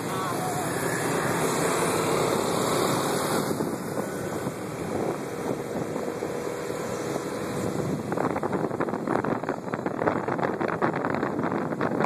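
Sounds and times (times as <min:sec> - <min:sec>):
scooter engine drone: 0:00.0 - 0:12.0
wind buffeting microphone: 0:00.0 - 0:12.0.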